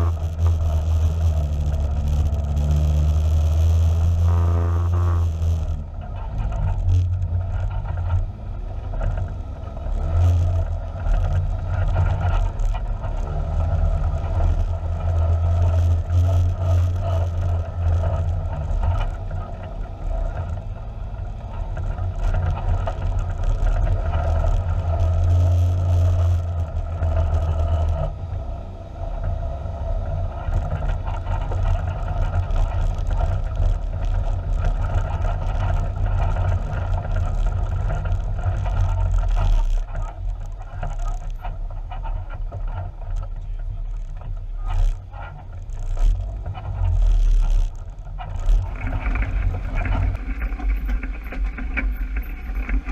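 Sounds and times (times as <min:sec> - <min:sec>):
utility vehicle engine droning: 0:00.0 - 0:52.9
vehicle rattling over rough ground: 0:00.0 - 0:52.9.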